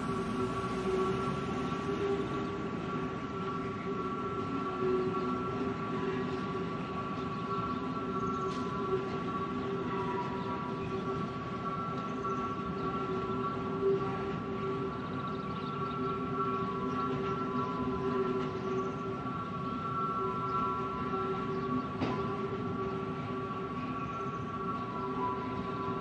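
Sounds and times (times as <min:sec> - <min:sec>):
freight train wheels rumbling: 0:00.0 - 0:26.0
steady high-pitched tones: 0:00.0 - 0:26.0.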